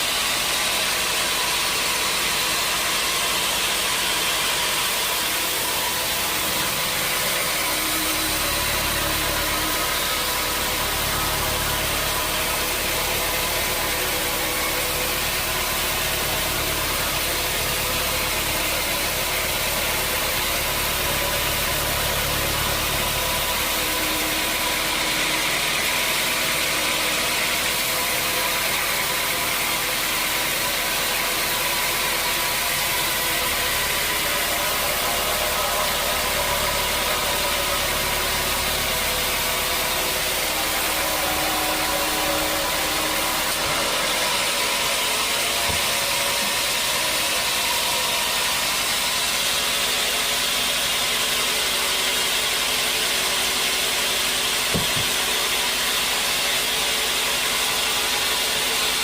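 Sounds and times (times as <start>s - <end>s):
sawmill motor hum: 0.0s - 59.0s.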